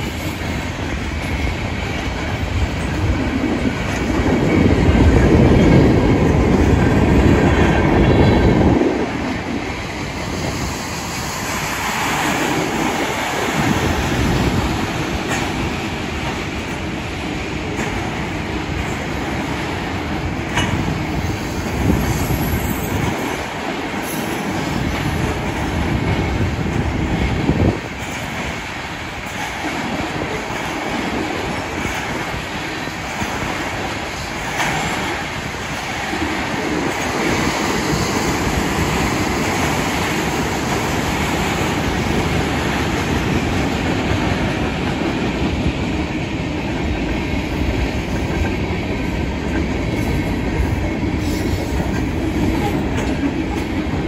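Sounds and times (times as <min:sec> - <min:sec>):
train wheels rumbling and clacking: 0:00.0 - 0:54.0.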